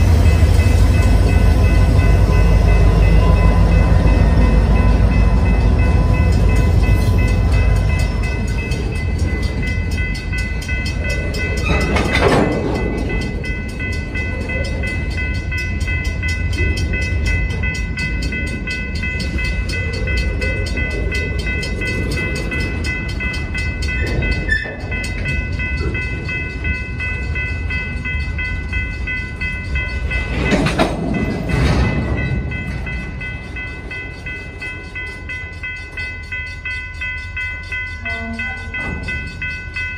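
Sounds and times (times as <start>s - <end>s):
diesel locomotive rumble: 0.0s - 39.9s.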